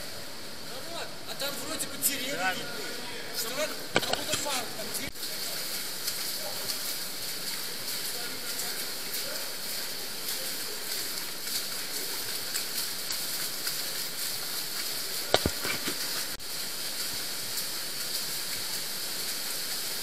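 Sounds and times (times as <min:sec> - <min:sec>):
water rushing through tunnel: 0:00.0 - 0:20.0.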